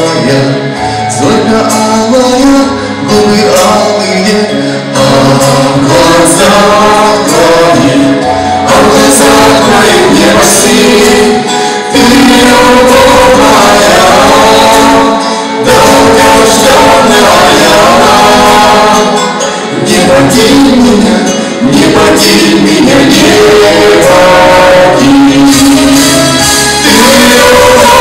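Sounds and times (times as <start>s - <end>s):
vocal quartet singing: 0.0s - 28.0s.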